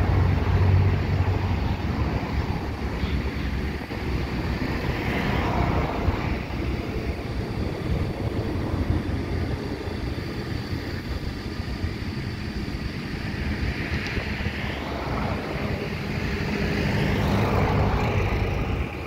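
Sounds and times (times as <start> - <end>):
road traffic: 0.0 - 19.0
vehicles swishing past: 0.0 - 19.0
wind rumbling on microphone: 0.0 - 19.0.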